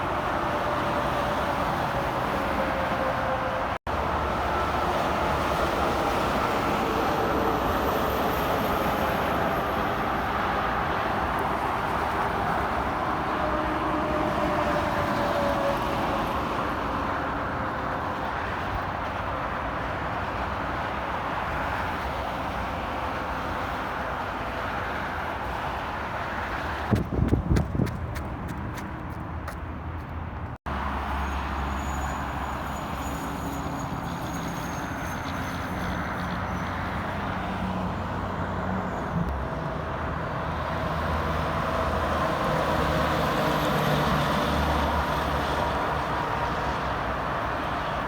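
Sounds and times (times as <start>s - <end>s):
highway traffic roar: 0.0s - 48.0s.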